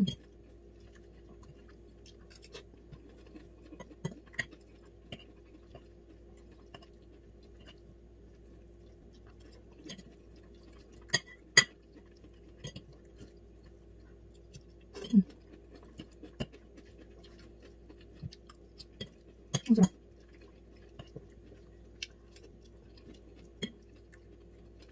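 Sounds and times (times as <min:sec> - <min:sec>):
soft chewing: 0:00.0 - 0:24.9.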